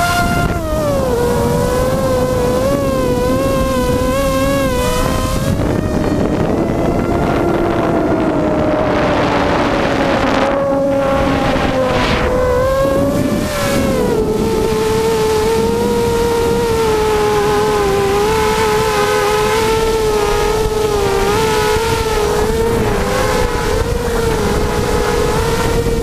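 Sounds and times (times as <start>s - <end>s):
drone motors whining: 0.0s - 26.0s
wind on microphone: 0.0s - 26.0s.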